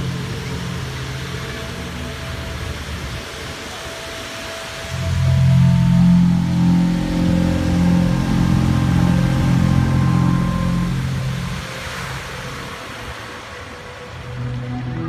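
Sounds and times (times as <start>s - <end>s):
loud low drone: 0.0s - 3.2s, 4.8s - 13.1s, 13.7s - 15.0s.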